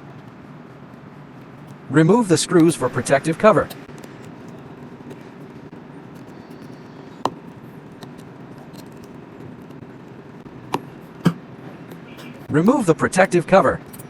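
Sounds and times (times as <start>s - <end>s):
steady low hum: 0.0s - 14.0s
small repair tools clicking: 2.5s - 14.0s.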